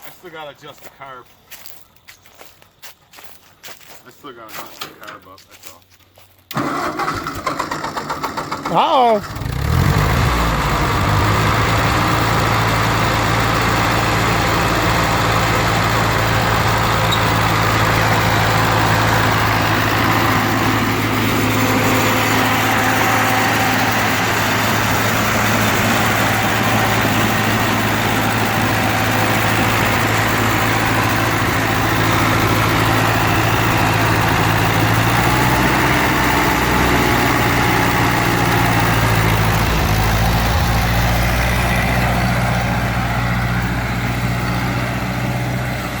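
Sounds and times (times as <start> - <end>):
tractor engine running: 6.4 - 46.0.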